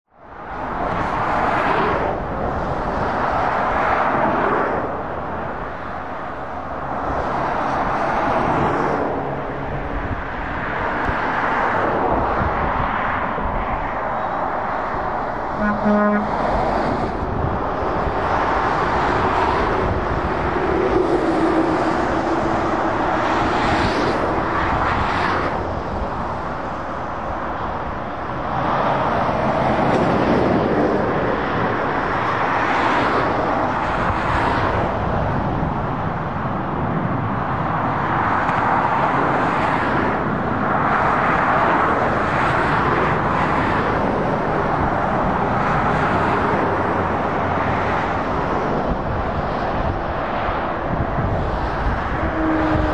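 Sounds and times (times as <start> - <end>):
motorway traffic passing: 0.1 - 52.9.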